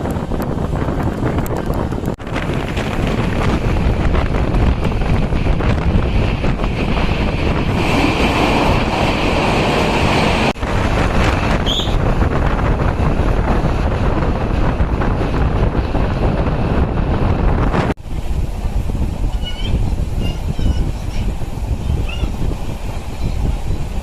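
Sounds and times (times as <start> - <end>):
train running: 0.0 - 24.0
wind on microphone: 0.0 - 24.0.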